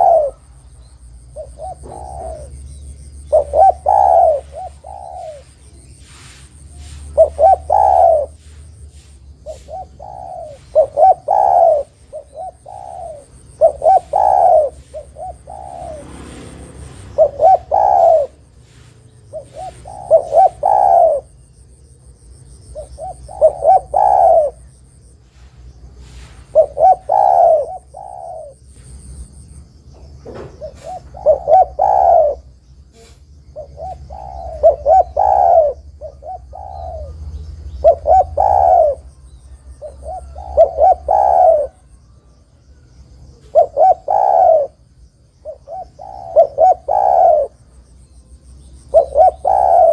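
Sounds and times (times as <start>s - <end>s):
dove cooing: 0.0s - 21.8s, 22.4s - 29.0s, 30.0s - 49.9s.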